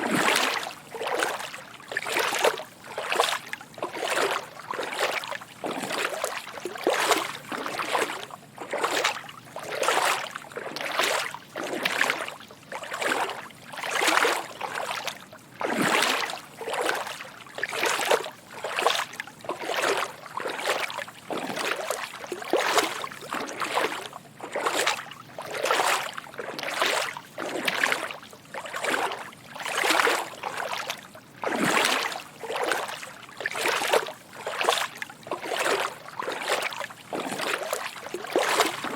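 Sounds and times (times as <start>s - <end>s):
footsteps wading through water: 0.0s - 38.9s.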